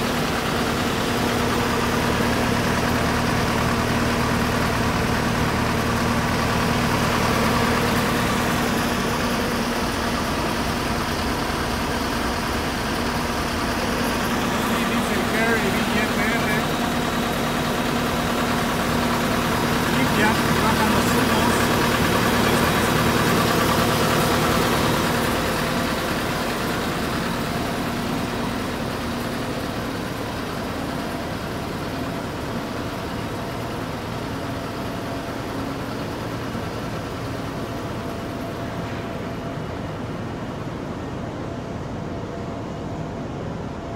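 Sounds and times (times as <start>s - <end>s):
diesel engine running: 0.0s - 43.6s.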